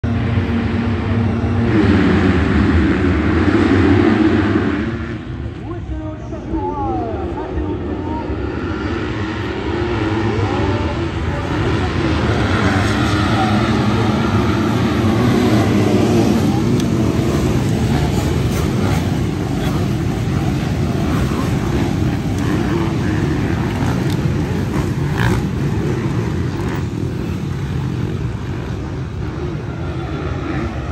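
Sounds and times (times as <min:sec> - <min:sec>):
motocross bikes revving: 0:00.0 - 0:05.6, 0:07.3 - 0:30.9.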